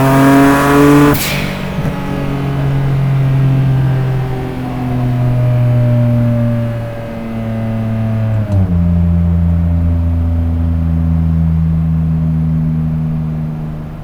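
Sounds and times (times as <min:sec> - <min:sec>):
car engine running under load: 0:00.0 - 0:14.0.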